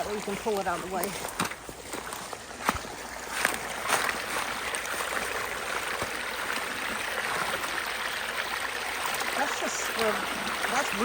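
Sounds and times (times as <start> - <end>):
water rushing through culvert: 0.0 - 11.0.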